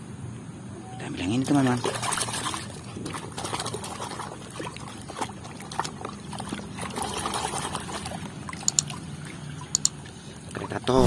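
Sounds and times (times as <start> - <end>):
water sloshing and trickling: 0.8 - 11.0.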